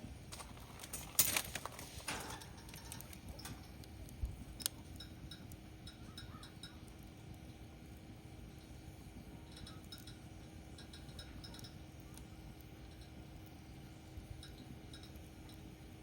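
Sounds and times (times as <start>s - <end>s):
firewood crackling and popping: 0.0s - 16.0s
low fire hiss: 0.0s - 16.0s.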